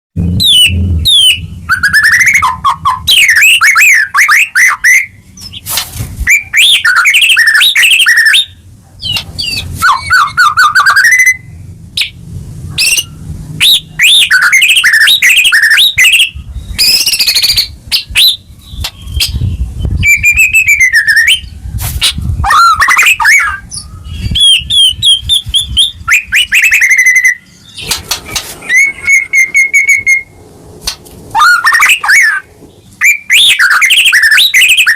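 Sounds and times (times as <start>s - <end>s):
songbird whistles and trills: 0.2s - 12.2s, 12.8s - 34.9s.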